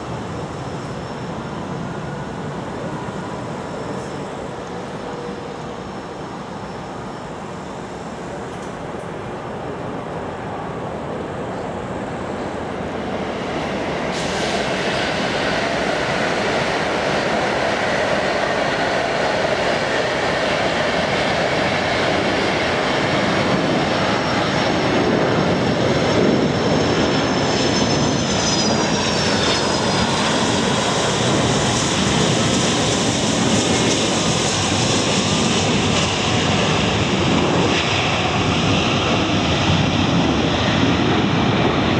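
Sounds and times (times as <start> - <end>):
jet airliner passing: 0.0 - 41.9.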